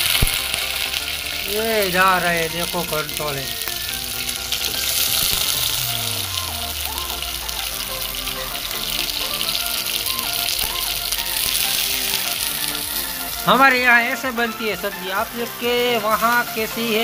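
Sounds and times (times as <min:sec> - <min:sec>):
background music with melody: 0:00.0 - 0:17.0
vegetables frying in hot oil: 0:00.0 - 0:17.0.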